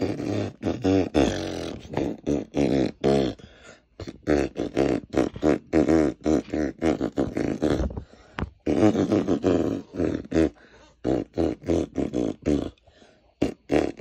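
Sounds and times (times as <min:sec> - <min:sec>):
fart noises: 0:00.0 - 0:03.4, 0:04.0 - 0:12.8, 0:13.4 - 0:14.0.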